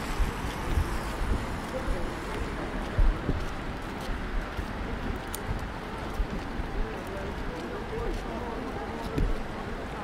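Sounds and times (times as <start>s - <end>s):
wind buffeting microphone: 0.0s - 8.2s
outdoor street hiss: 0.0s - 10.0s.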